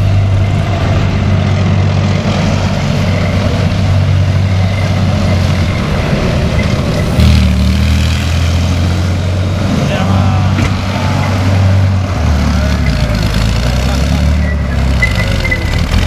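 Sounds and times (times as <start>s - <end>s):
heavy vehicle engine humming: 0.0s - 16.0s.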